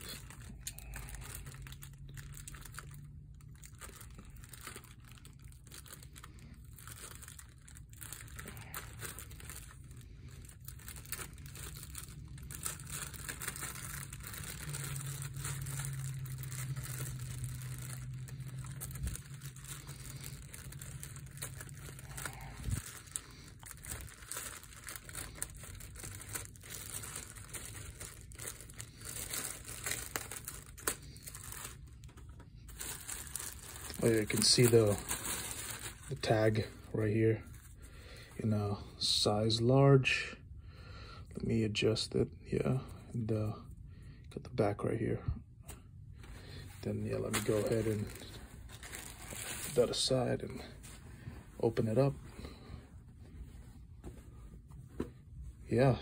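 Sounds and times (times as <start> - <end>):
plastic bag crinkling: 0.0 - 38.4, 46.2 - 56.0.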